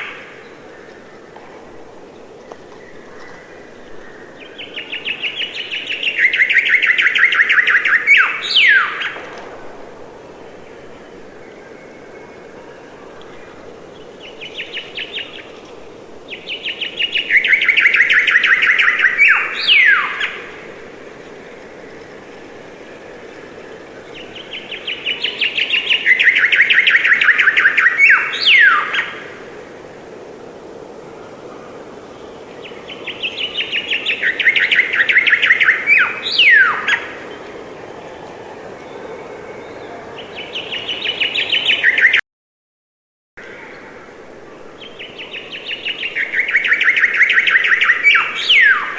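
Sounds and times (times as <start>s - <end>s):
outdoor background hiss: 0.0s - 42.2s, 43.4s - 48.9s
songbird singing: 0.0s - 42.2s, 43.4s - 48.9s.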